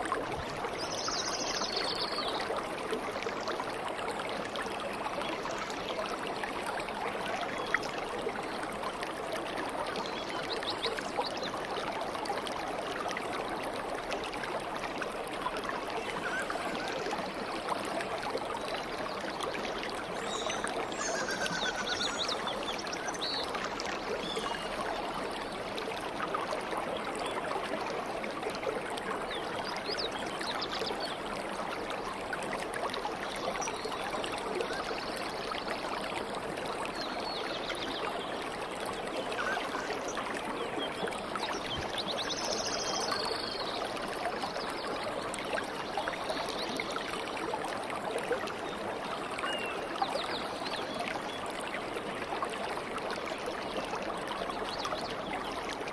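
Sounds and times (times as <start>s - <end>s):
stream babbling over stones: 0.0s - 55.9s.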